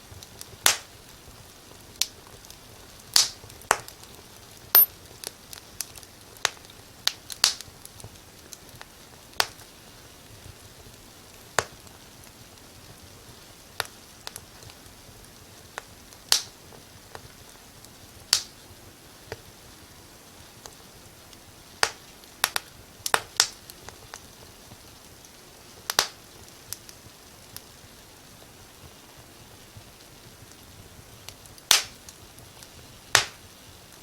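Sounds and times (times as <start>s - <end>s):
faint steady hiss: 0.0s - 34.0s
fire crackling and popping: 0.0s - 34.0s.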